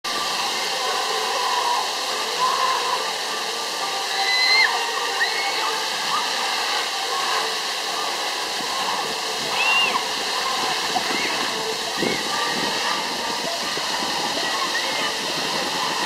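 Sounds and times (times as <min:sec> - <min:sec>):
fountain water splashing: 0:00.1 - 0:16.0.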